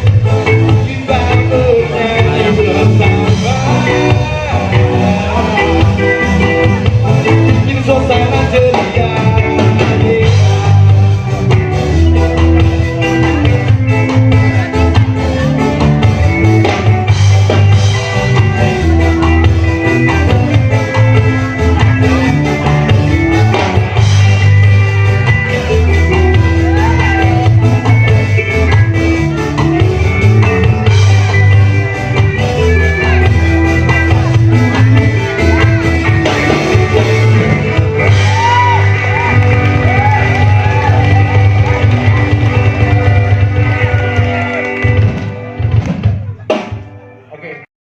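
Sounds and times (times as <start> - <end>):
person singing: 0.0 - 16.9, 17.5 - 45.0
steady bass line: 0.0 - 46.8
rock band playing: 0.0 - 47.7.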